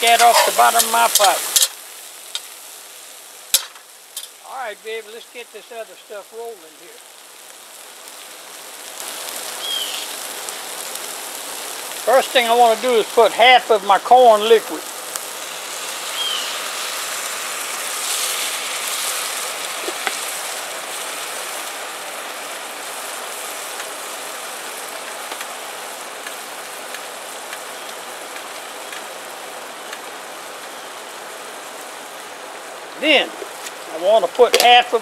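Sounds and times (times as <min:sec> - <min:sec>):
liquid sizzling in a hot pot: 0:00.0 - 0:35.0.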